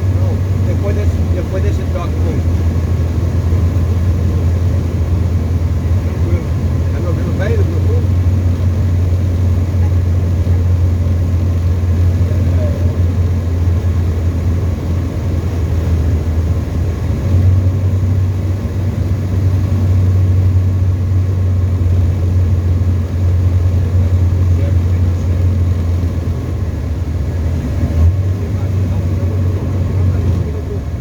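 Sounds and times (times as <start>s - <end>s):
aircraft engine droning: 0.0s - 31.0s.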